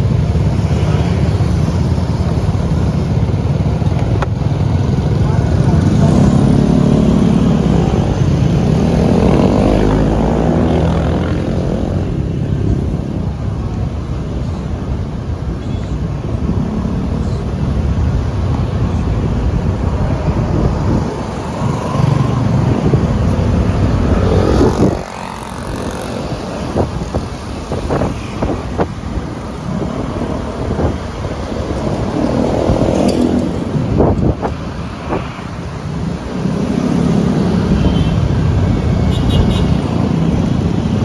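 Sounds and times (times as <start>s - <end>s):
engine and tyre noise: 0.0s - 41.0s
wind rushing on microphone: 0.0s - 41.0s.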